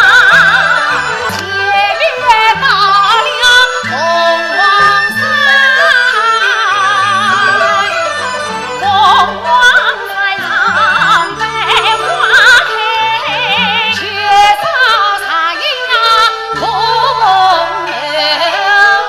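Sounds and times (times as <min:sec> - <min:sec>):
traditional instrumental accompaniment: 0:00.0 - 0:19.0
woman singing opera: 0:00.0 - 0:19.0.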